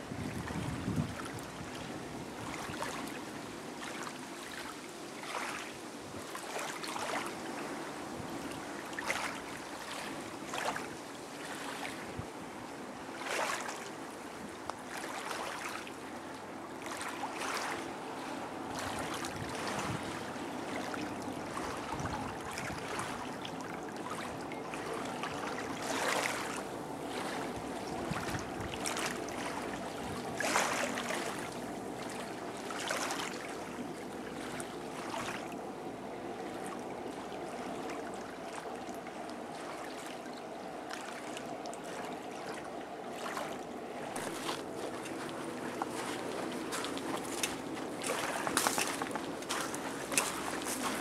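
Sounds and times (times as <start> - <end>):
small waves lapping shore: 0.0 - 51.0.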